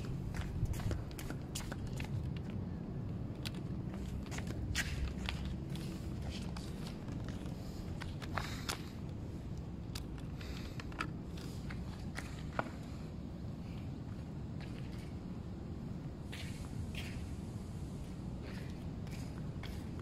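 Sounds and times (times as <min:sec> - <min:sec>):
footsteps on concrete: 0:00.0 - 0:15.4, 0:16.2 - 0:20.0
steady low rumble: 0:00.0 - 0:20.0.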